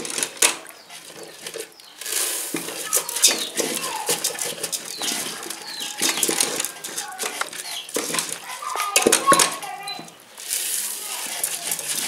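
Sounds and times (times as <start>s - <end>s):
wooden spoon scraping metal pot: 0.0s - 12.0s.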